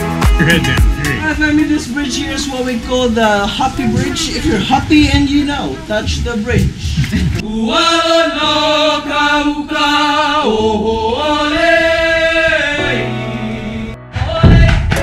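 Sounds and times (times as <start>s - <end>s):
voices singing slow chant: 0.1s - 15.0s.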